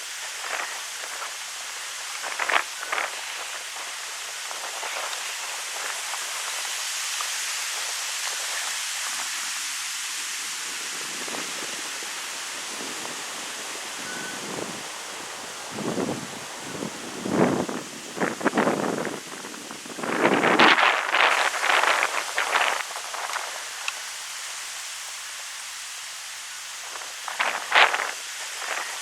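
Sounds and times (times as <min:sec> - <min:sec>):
wind rustling leaves: 0:00.0 - 0:29.0.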